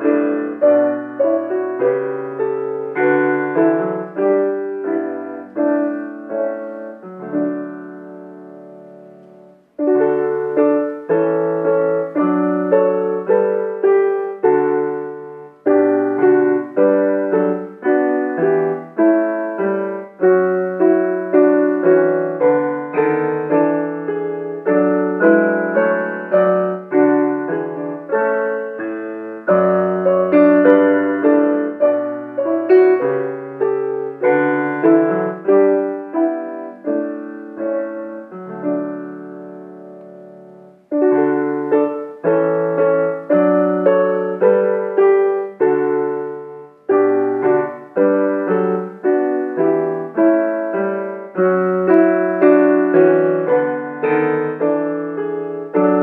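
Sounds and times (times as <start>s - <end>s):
piano playing hymn chords: 0.0s - 56.0s.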